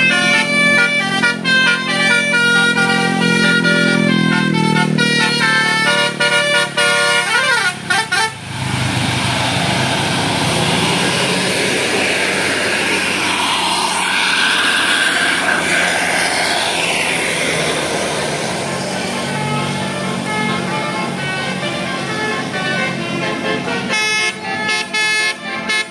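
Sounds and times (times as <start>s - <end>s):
musical air horn: 0.0s - 8.5s, 10.8s - 25.9s
loud steady rush of noise: 0.0s - 25.9s.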